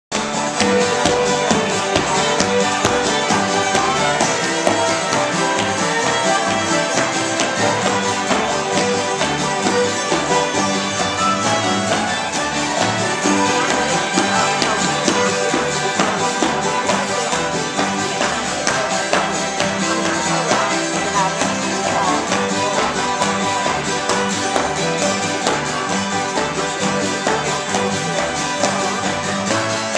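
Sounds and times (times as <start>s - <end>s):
acoustic guitars: 0.1s - 29.9s
fiddle: 0.1s - 29.9s
shoes tapping on wooden floor: 0.2s - 29.9s.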